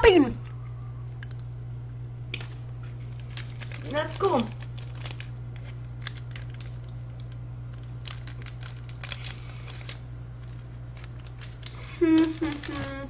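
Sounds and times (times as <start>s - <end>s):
steady low hum: 0.0s - 13.0s
popping candy crackling: 0.4s - 1.6s, 2.3s - 13.0s.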